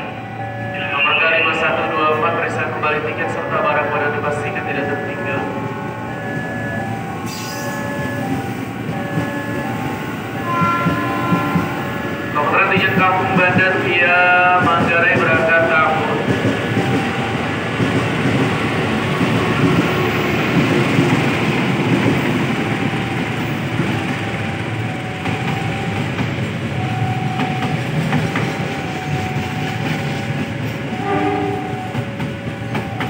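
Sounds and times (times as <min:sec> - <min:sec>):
train rumbling over rails: 0:00.0 - 0:33.0
wheels clicking on track: 0:06.2 - 0:33.0.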